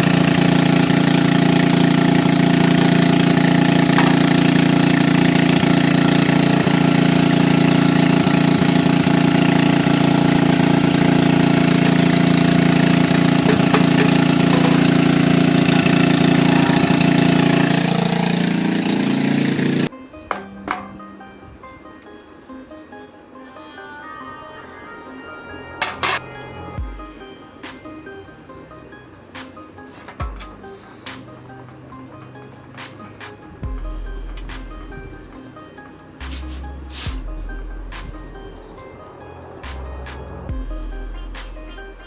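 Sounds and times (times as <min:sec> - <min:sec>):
generator engine running: 0:00.0 - 0:21.7, 0:26.8 - 0:42.0.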